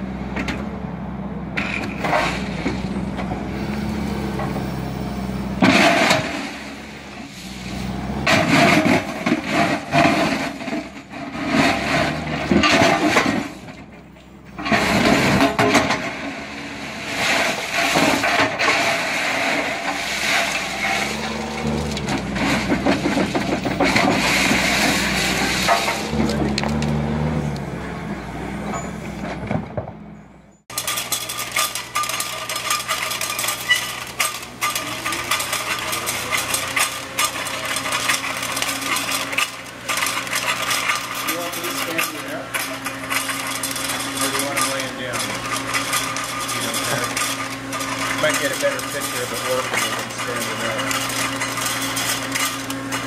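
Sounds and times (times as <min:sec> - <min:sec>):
machinery running: 0:01.2 - 0:53.0
steel rail scraping and clanking: 0:01.6 - 0:53.0.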